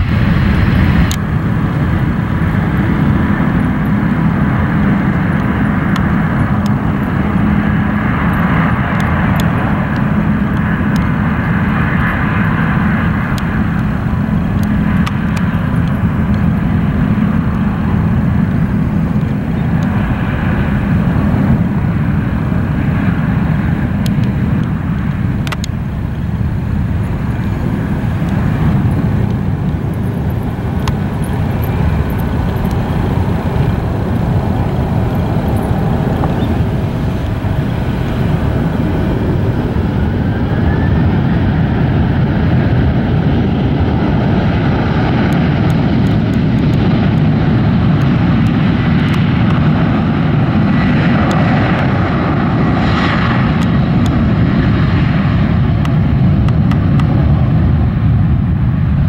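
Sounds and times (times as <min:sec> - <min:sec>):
airliner jet engines rumbling: 0:00.0 - 0:59.0.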